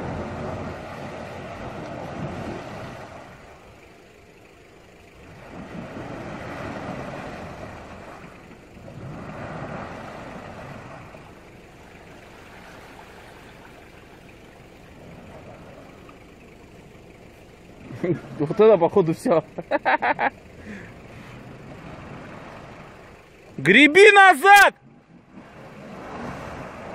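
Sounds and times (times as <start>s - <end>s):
suv engine revving: 0.0s - 26.9s
wheels churning water and mud: 0.0s - 26.9s.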